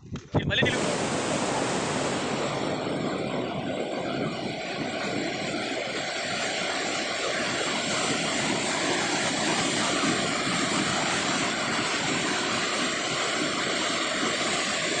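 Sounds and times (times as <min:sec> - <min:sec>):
floodwater rushing: 0:00.6 - 0:15.0.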